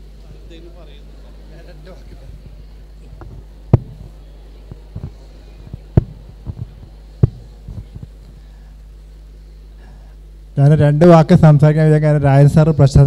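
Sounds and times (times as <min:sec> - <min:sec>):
sound system electrical hum: 0:00.0 - 0:13.0.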